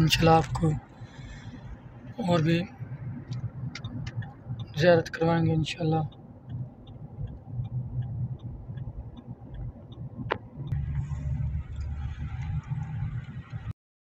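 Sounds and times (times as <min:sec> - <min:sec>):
road and engine rumble: 0:00.0 - 0:13.8
light ticking: 0:00.4 - 0:13.7.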